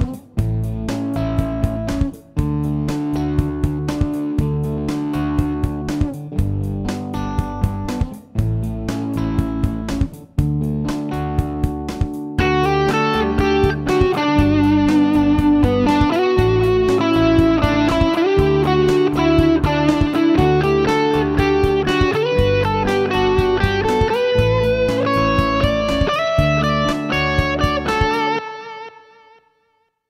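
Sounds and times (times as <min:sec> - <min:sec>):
bass and drum backing track: 0:00.0 - 0:28.4
electric guitar playing: 0:00.0 - 0:29.9.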